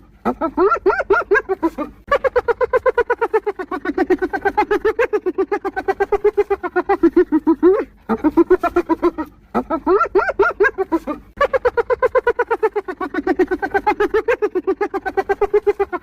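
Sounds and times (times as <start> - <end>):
hyena giggling: 0.0 - 16.0.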